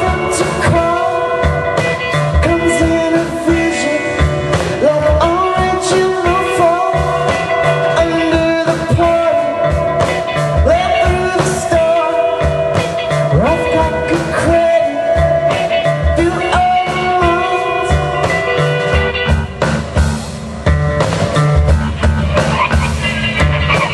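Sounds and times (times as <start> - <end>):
live rock band playing: 0.0 - 23.9.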